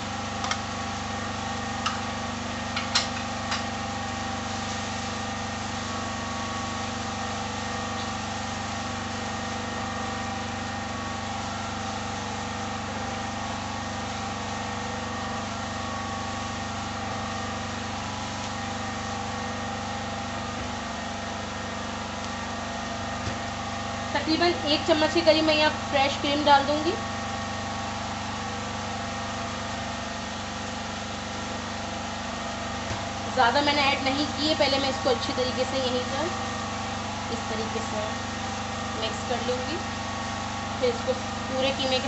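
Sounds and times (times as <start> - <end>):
generator engine droning: 0.0 - 42.0.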